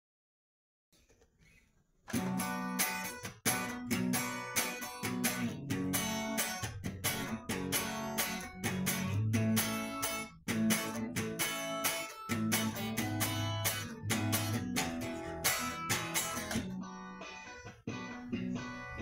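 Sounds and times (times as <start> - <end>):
electric guitar playing: 2.1 - 19.0.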